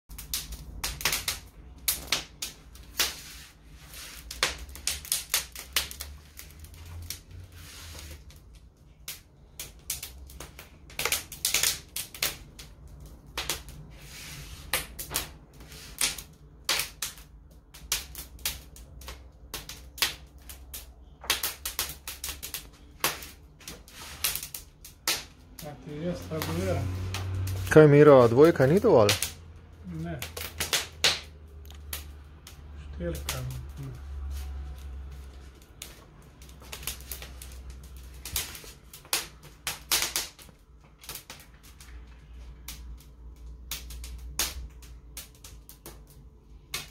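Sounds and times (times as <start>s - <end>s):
wood fire crackling and popping: 0.1s - 46.9s.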